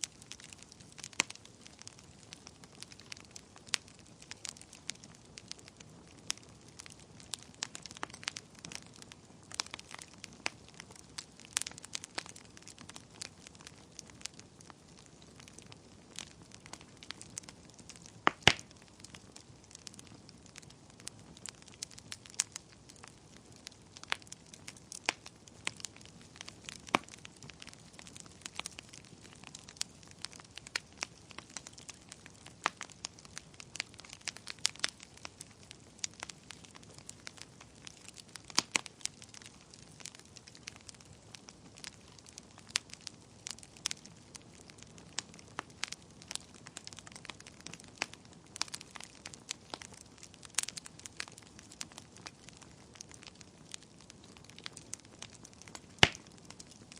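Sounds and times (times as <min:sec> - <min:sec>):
soft steady fire hiss: 0:00.0 - 0:56.9
wood fire crackling and popping: 0:00.0 - 0:56.9.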